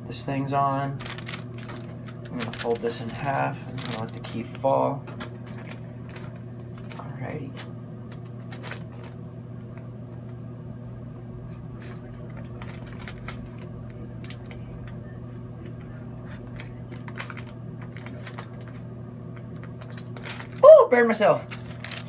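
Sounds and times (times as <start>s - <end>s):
steady low hum: 0.0s - 22.0s
faint clicks and crackles: 1.0s - 10.4s, 11.8s - 20.6s.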